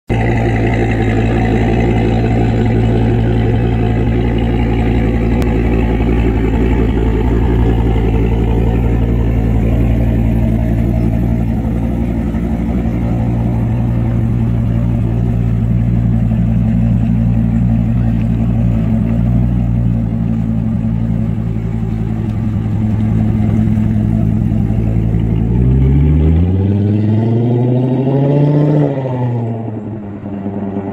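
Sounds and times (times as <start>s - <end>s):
car engine accelerating: 0.1s - 30.9s.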